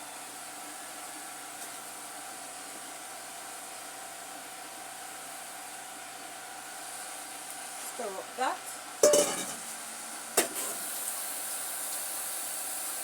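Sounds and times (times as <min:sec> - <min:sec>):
faint constant hum: 0:00.0 - 0:11.7.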